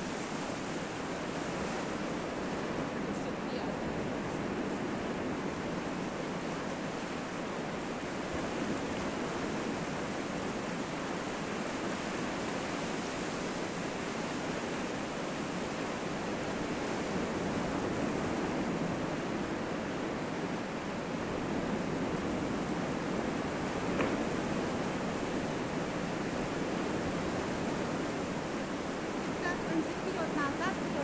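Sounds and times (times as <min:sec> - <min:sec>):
surf breaking on shore: 0:00.0 - 0:31.0.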